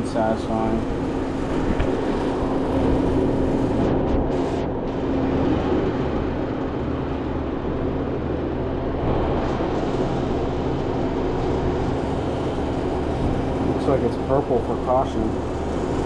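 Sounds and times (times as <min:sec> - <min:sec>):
refrigerator compressor humming: 0:00.0 - 0:16.0.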